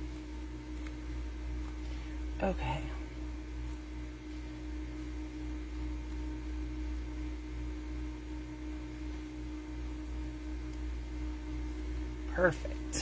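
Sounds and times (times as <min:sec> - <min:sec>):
low drone hum: 0:00.0 - 0:13.0.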